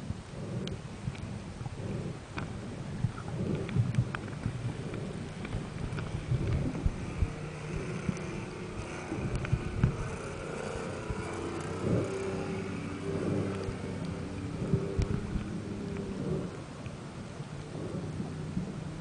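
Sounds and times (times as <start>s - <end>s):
boat engine hum: 0.0s - 19.0s
muffled underwater rumbles: 0.0s - 19.0s
sharp underwater clicks: 0.1s - 19.0s.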